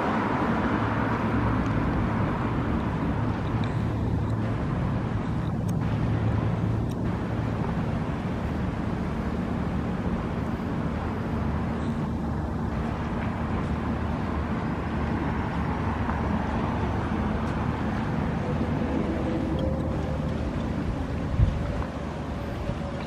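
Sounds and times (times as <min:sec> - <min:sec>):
low drone: 0:00.0 - 0:23.0
traffic rumble: 0:00.0 - 0:23.0.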